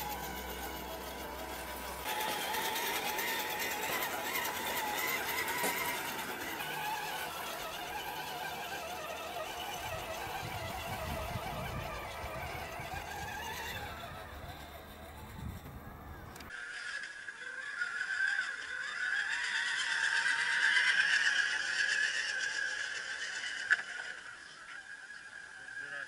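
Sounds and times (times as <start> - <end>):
toy truck electric motor whining: 0.0 - 26.0.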